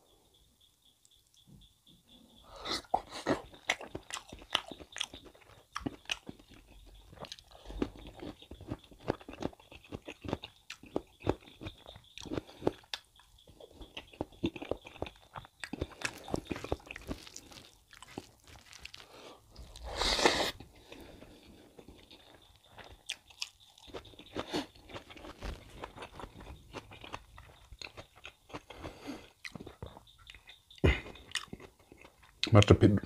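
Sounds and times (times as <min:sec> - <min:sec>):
wet chewing mouth noises: 0:02.6 - 0:32.6.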